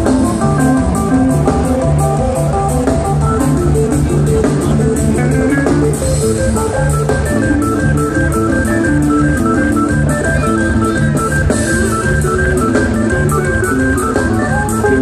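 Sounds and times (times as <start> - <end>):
bass guitar: 0.0 - 15.0
drum kit beat: 0.0 - 15.0
electric guitar riff: 0.0 - 15.0.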